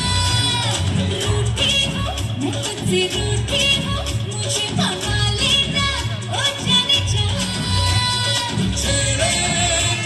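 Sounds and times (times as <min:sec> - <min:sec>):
dance song with singing: 0:00.0 - 0:10.0.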